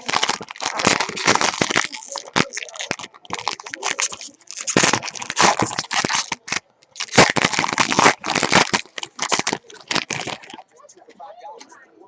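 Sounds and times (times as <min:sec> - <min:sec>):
card packs crinkling: 0:00.0 - 0:10.6.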